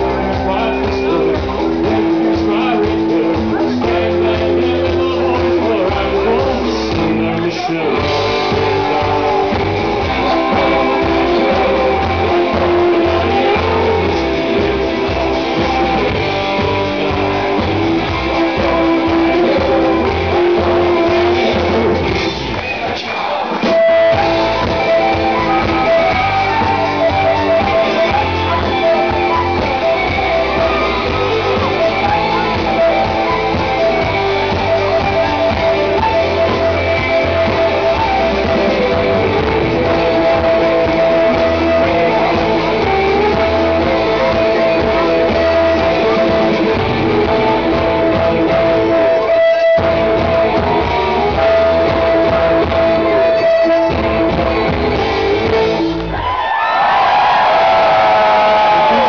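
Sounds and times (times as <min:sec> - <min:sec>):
bass guitar: 0:00.0 - 0:59.0
drums: 0:00.0 - 0:59.0
rock band playing: 0:00.0 - 0:59.0.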